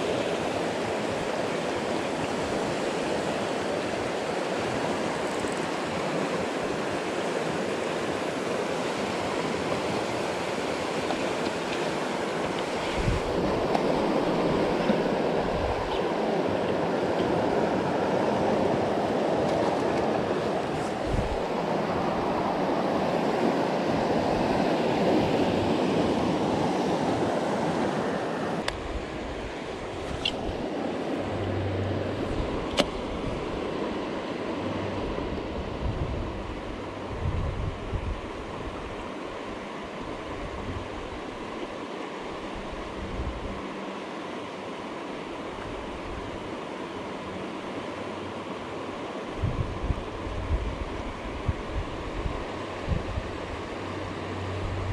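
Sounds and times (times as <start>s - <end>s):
river current rushing: 0.0s - 54.9s.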